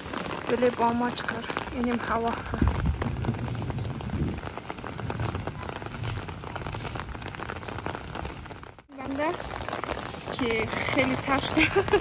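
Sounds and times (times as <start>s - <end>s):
rain pattering on umbrella: 0.0s - 12.0s.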